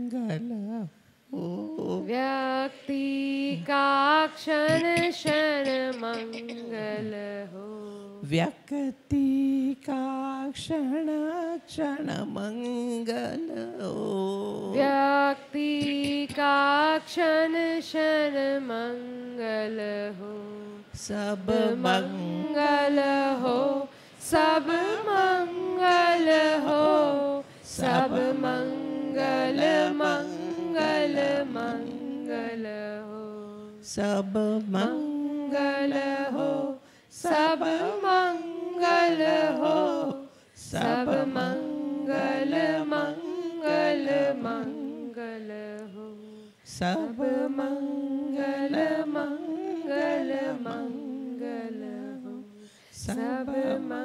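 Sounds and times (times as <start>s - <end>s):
woman singing a chant: 0.0s - 54.0s.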